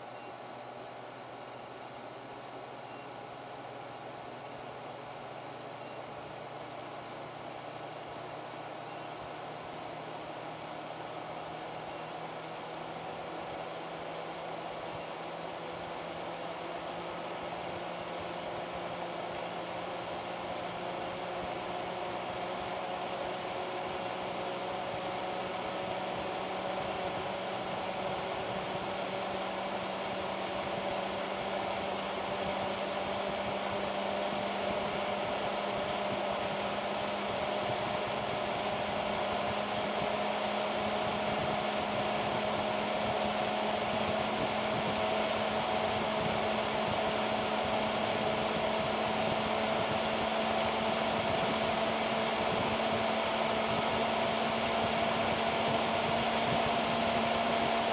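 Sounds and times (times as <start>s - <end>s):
fan hum: 0.0s - 57.9s
computer fan whooshing: 3.4s - 57.9s.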